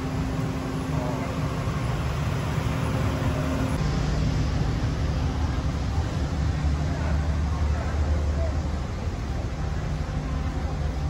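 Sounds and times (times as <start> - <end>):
faint steady hum: 0.0 - 11.0
street traffic rumble: 0.0 - 11.0.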